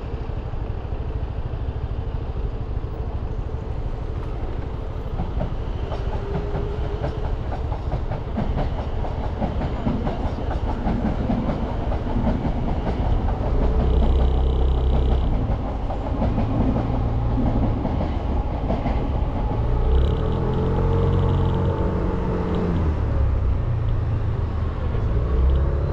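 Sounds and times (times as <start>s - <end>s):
road and wind noise: 0.0s - 25.9s.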